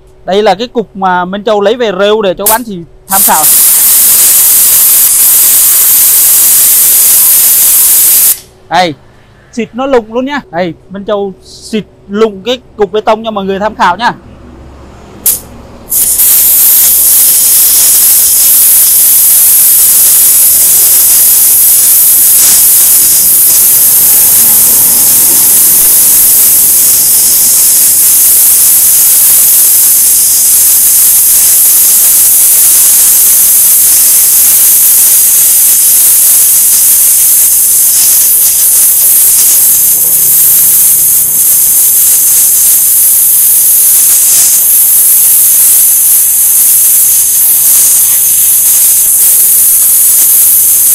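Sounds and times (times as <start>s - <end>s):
pressure washer jet hissing on concrete: 2.5s - 8.5s, 15.3s - 50.9s.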